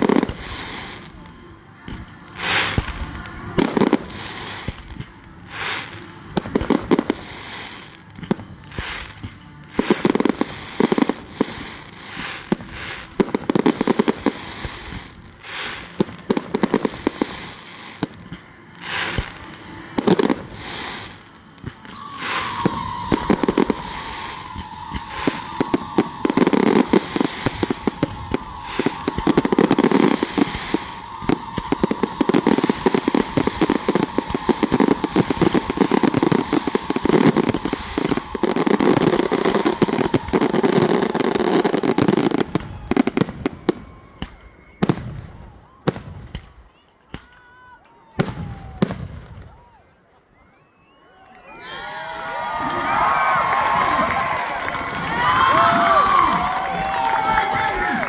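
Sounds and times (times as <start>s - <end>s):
fireworks bursts and crackling: 0.0s - 47.4s, 48.2s - 49.7s, 51.9s - 58.0s.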